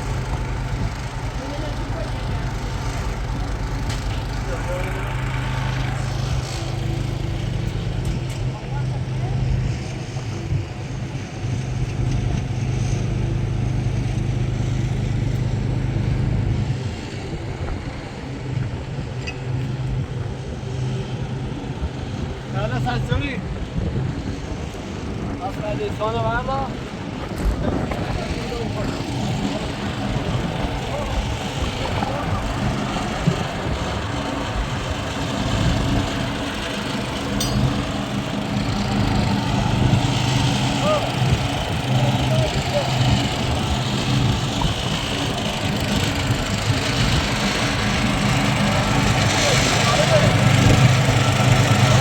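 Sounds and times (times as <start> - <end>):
engine humming: 0.0 - 52.0.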